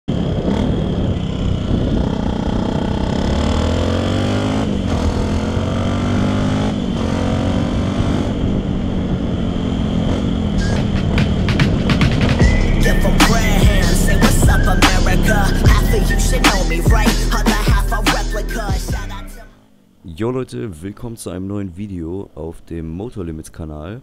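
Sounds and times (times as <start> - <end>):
motorcycle engine accelerating: 0.1 - 19.4.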